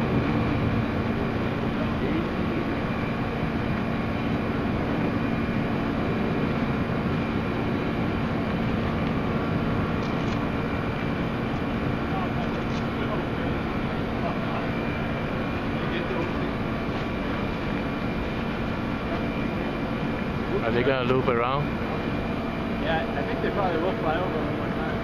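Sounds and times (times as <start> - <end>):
distant jet engine rumble: 0.0 - 25.0
low hum: 0.0 - 25.0.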